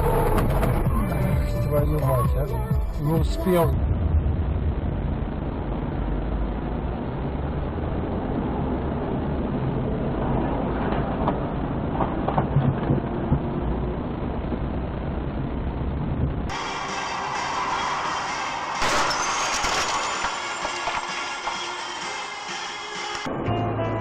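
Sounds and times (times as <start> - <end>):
vehicle rumble: 0.0 - 22.1.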